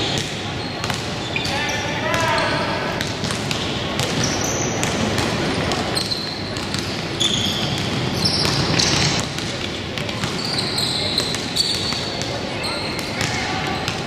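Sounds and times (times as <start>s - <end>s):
crowd chatter: 0.0s - 14.0s
sneakers squeaking: 0.0s - 14.0s.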